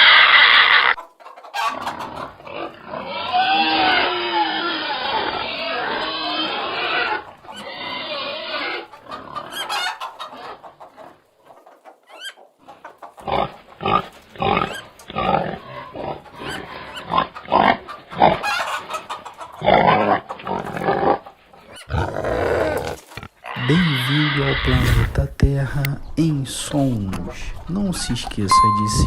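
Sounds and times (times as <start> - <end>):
pigs grunting: 0.0 - 11.3, 12.7 - 25.5.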